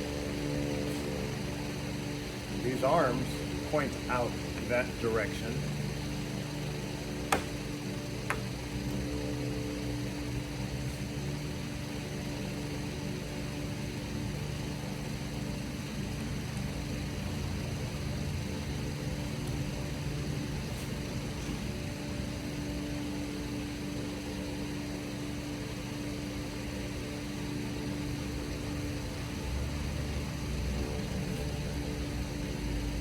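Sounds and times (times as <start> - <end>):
machine humming and whirring: 0.0 - 33.0.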